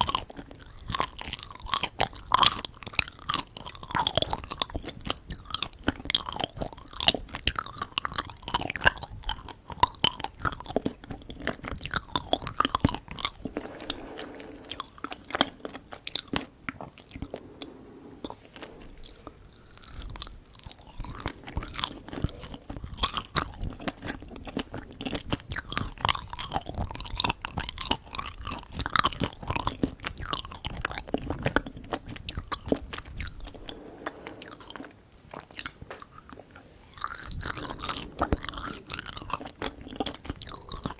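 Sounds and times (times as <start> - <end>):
wet sticky mouth chewing: 0.0 - 40.9.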